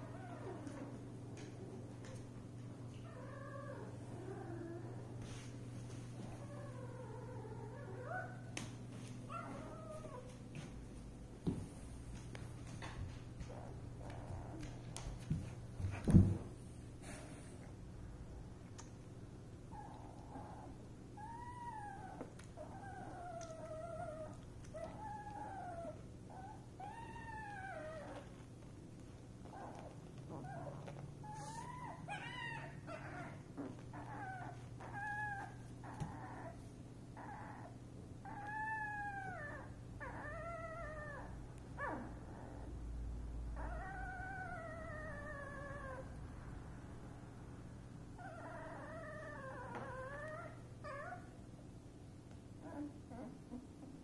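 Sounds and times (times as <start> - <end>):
puppies whining: 0.0 - 10.7, 12.2 - 17.3, 19.7 - 42.8, 43.5 - 46.2, 48.1 - 51.5, 52.5 - 54.0.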